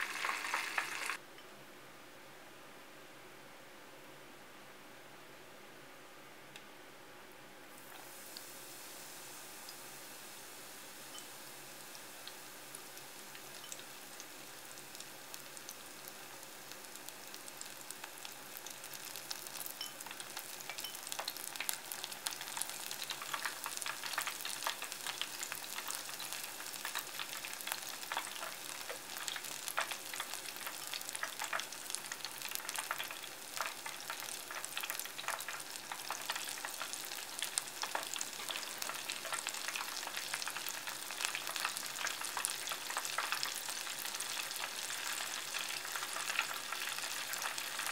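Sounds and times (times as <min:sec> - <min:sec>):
tempura deep-frying in oil: 0:00.0 - 0:01.2, 0:07.7 - 0:47.9.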